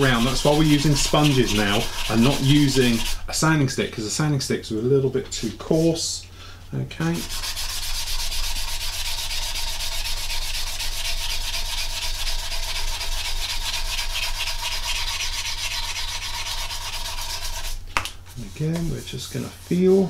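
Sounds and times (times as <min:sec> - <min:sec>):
sanding sponge rasping on plastic: 0:00.0 - 0:03.3, 0:07.1 - 0:20.0.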